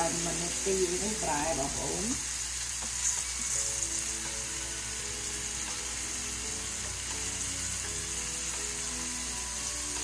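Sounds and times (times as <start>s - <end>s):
background music: 0.0s - 10.0s
shrimp sizzling in hot oil: 0.0s - 10.0s.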